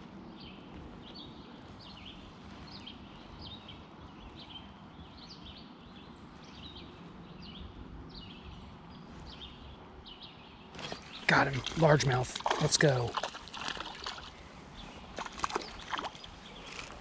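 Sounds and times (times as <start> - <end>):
low outdoor background noise: 0.0 - 17.0
small songbird chirping: 0.4 - 17.0.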